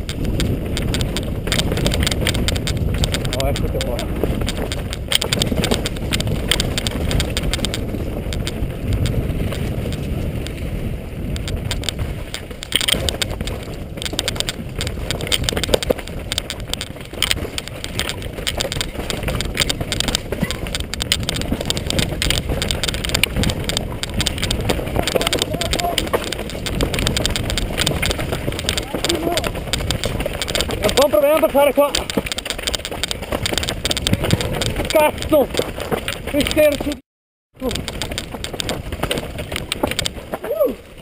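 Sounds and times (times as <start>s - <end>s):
bike rattling and knocking: 0.0s - 37.0s, 37.6s - 41.0s
bike tyres crunching over gravel: 0.0s - 37.0s, 37.6s - 41.0s.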